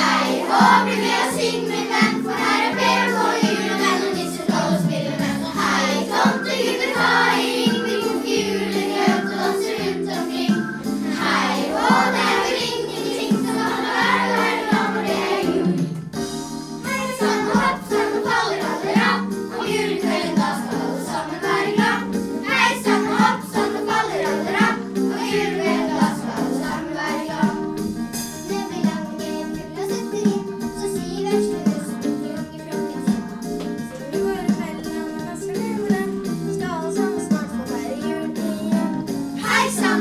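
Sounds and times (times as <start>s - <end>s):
children singing together: 0.0s - 16.1s, 16.8s - 40.0s
instrumental accompaniment: 0.0s - 40.0s.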